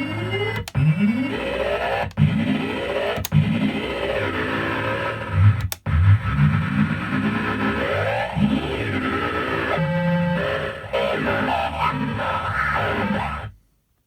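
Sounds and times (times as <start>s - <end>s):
garbled electronic toy sounds: 0.0s - 13.5s.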